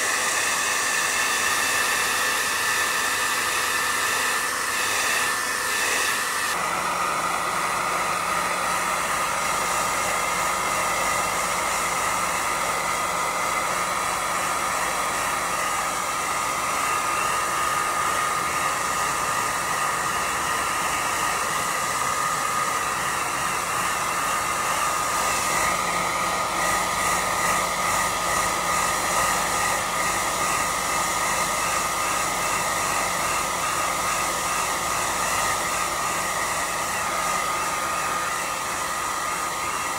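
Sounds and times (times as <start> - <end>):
pet dryer whining over rushing air: 0.0 - 39.9.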